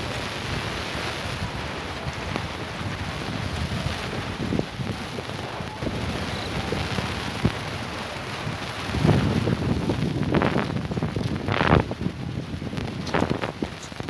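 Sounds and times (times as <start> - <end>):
rain hissing: 0.0 - 14.0
wind gusts buffeting microphone: 0.0 - 14.0.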